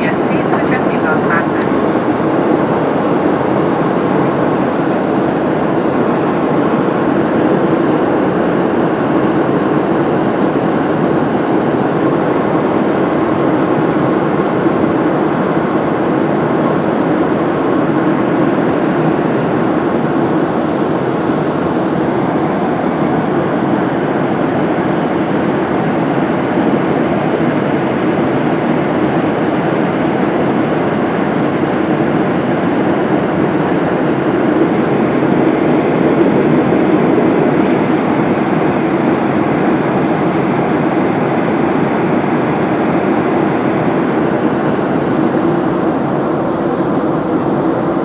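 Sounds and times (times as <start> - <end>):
jet engines and rushing air: 0.0 - 48.0.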